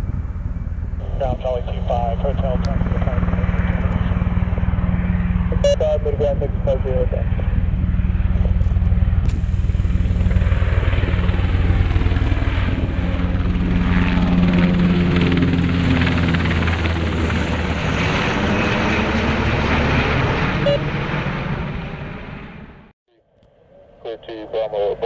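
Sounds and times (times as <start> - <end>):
helicopter flying past: 0.0 - 22.9, 23.5 - 25.0.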